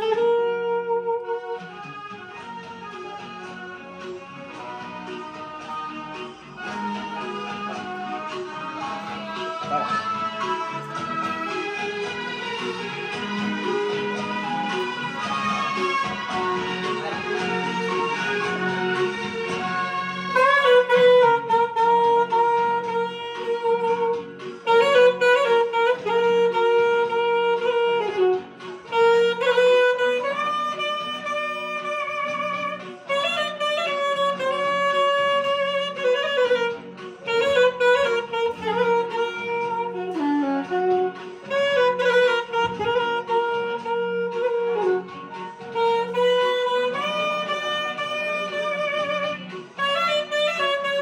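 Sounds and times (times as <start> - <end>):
alto saxophone solo melody: 0.0 - 51.0.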